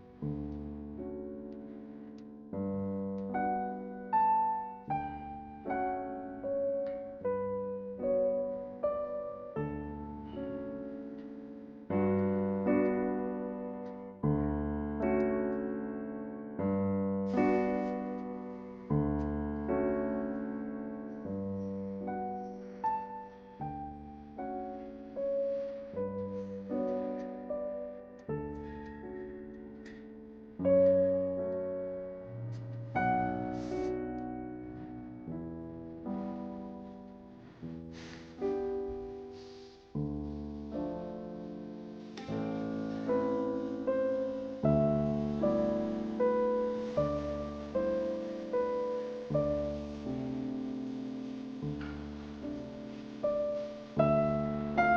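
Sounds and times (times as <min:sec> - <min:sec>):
slow piano piece: 0:00.0 - 0:54.9.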